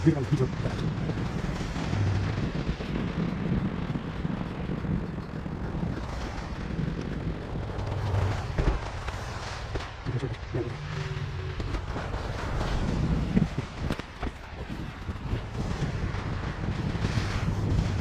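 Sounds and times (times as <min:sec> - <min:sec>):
bike rumbling through snow: 0:00.0 - 0:18.0
wind buffeting microphone: 0:00.0 - 0:18.0.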